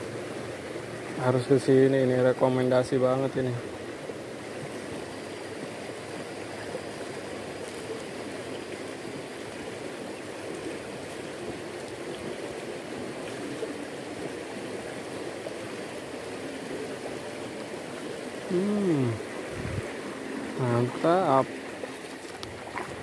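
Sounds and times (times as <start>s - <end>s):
fast river current rushing: 0.0s - 23.0s.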